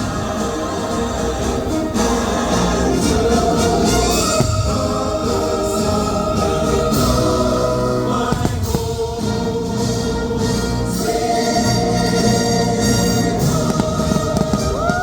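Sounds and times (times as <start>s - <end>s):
choir singing over loudspeakers: 0.0s - 15.0s.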